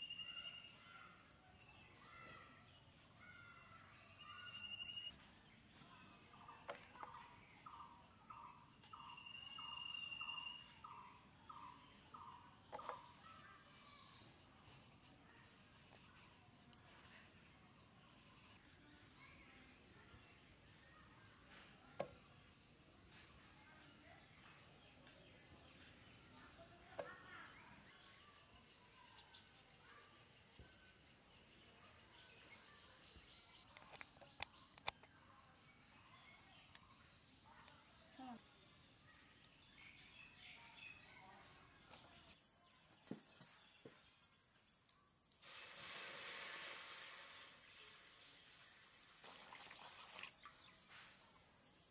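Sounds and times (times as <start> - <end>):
high insect drone: 0.0 - 41.1, 42.0 - 51.9.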